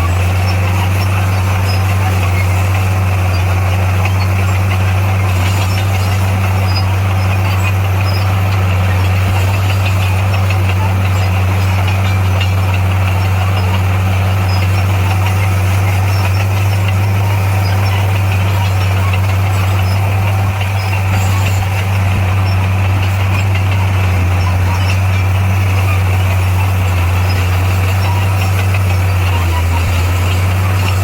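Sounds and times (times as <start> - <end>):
heavy diesel engine droning: 0.0 - 31.0.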